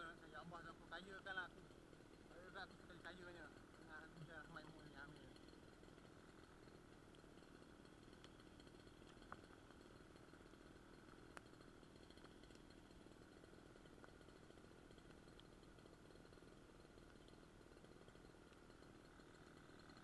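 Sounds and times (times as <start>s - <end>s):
faint background hum: 0.0s - 20.0s
small clicks: 0.9s - 20.0s.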